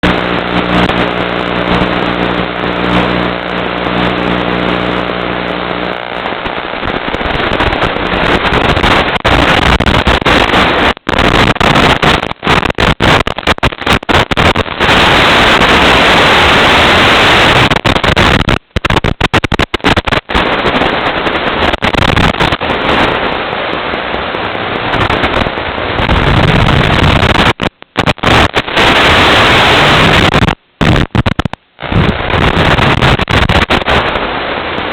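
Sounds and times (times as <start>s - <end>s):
buzzing hum with overtones: 0.0s - 34.9s
video link static hiss: 0.0s - 34.9s.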